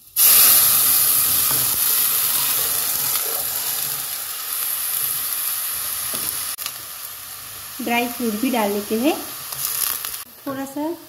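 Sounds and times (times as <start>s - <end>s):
liquid sizzling in hot oil: 0.0s - 11.0s.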